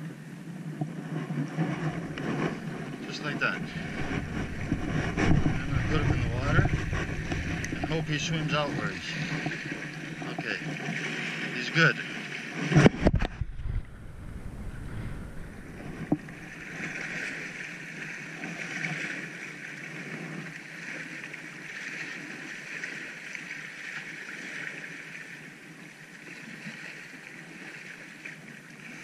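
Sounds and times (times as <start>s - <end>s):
waves lapping against rocks: 0.0s - 29.0s.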